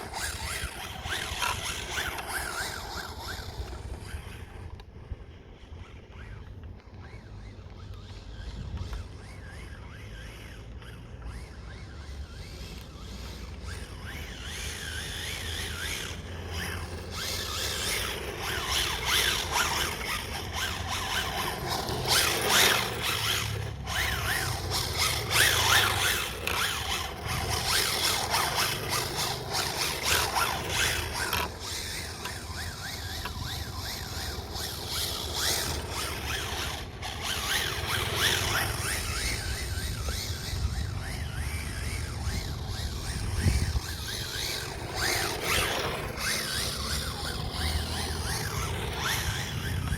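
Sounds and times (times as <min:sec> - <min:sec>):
rc car motor whine: 0:00.0 - 0:49.9.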